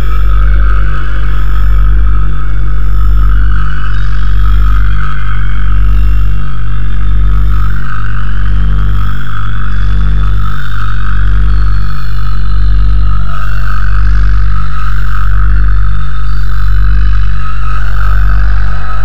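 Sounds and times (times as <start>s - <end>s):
distorted drone music: 0.0s - 19.0s.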